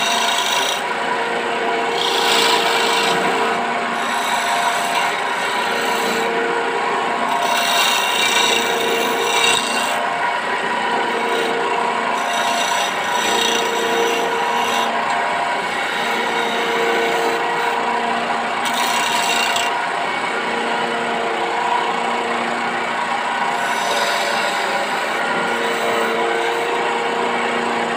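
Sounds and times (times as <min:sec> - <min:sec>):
lathe motor hum: 0:00.0 - 0:27.9
turning tool scraping wood: 0:00.0 - 0:27.9.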